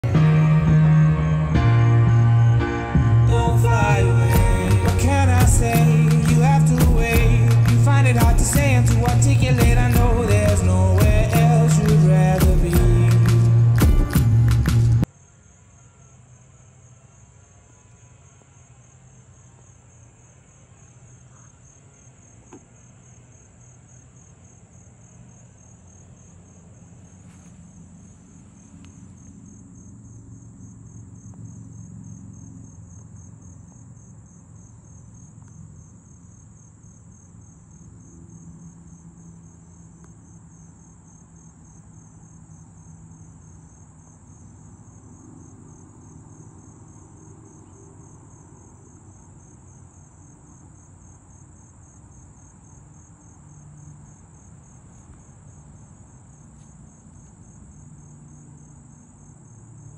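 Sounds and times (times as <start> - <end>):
insects trilling: 3.8 - 13.2, 15.0 - 59.9.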